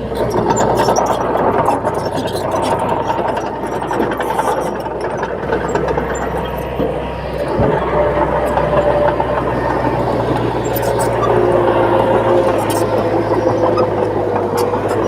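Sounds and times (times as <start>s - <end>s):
diesel earthmoving machinery: 0.0s - 15.0s.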